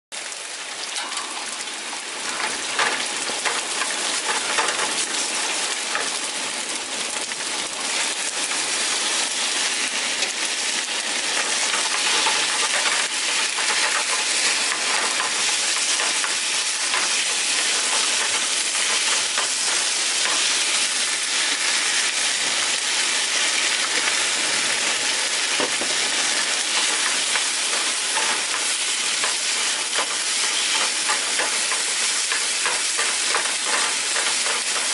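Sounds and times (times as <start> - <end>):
rice sizzling in a frying pan: 0.1 - 34.9.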